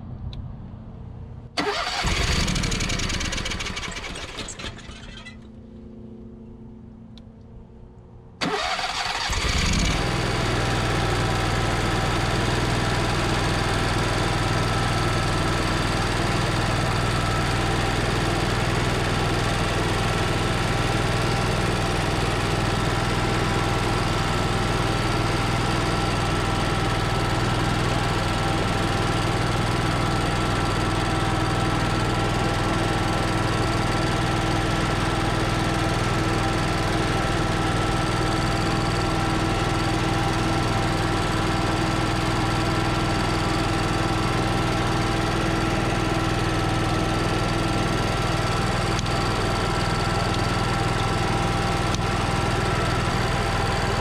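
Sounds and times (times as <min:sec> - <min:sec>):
generator engine starting and running: 0:00.0 - 0:54.0.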